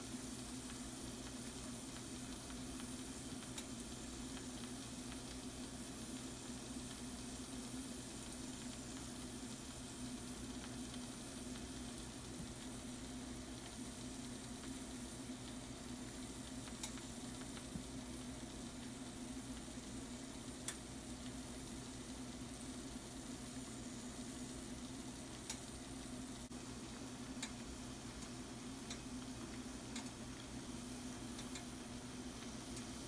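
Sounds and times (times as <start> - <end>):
food sizzling in a skillet: 0.0 - 33.0
low steady hum: 0.0 - 33.0.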